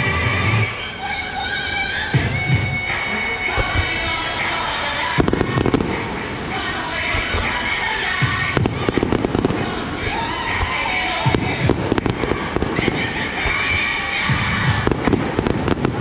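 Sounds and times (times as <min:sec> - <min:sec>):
crowd noise: 0:00.0 - 0:16.0
music: 0:00.0 - 0:16.0
fireworks bangs and crackles: 0:00.7 - 0:16.0.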